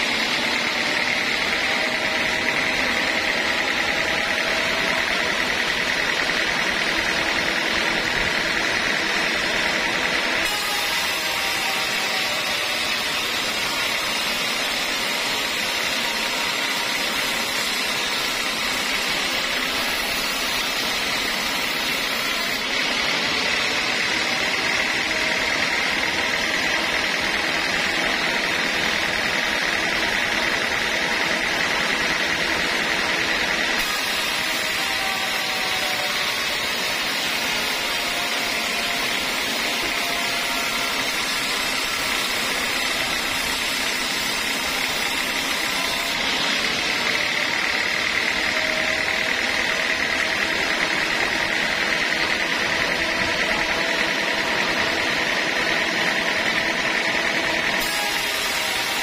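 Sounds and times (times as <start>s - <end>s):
sawmill motor and saw running: 0.0s - 59.0s.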